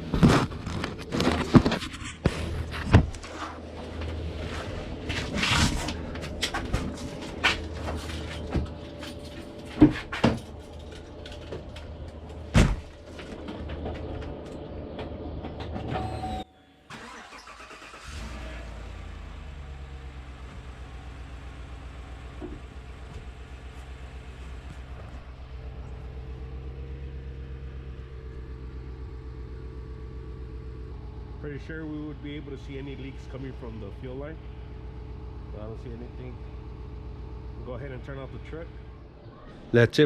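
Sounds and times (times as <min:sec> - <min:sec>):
pickup engine idling: 0:00.0 - 0:15.8, 0:16.6 - 0:39.7.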